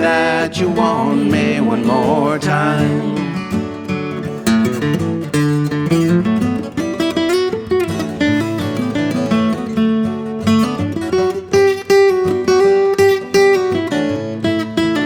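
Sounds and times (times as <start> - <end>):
acoustic guitar instrumental: 0.0 - 15.0.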